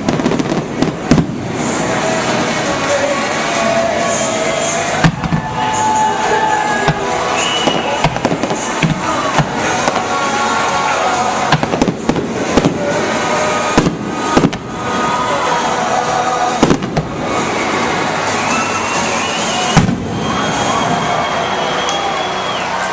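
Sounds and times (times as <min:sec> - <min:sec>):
fireworks bangs and crackles: 0:00.0 - 0:22.1
music playing: 0:00.0 - 0:22.9.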